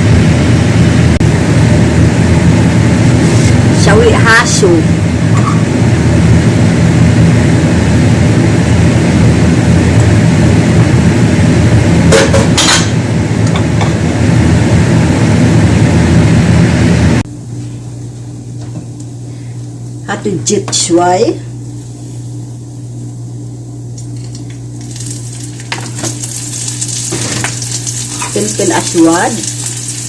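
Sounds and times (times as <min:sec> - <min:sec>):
electric kitchen motor humming: 0:00.0 - 0:30.0.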